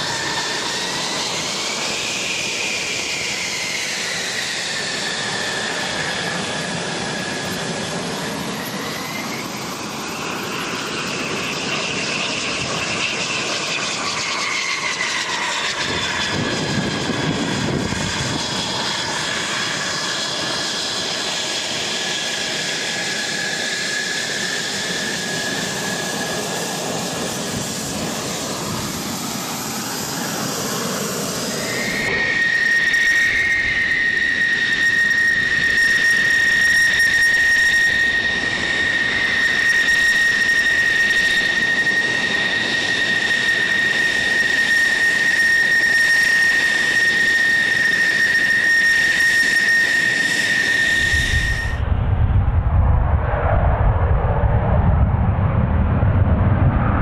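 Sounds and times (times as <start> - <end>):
high-pitched turbine whine: 0.0 - 57.0
jet engines roaring with whine: 0.0 - 57.0.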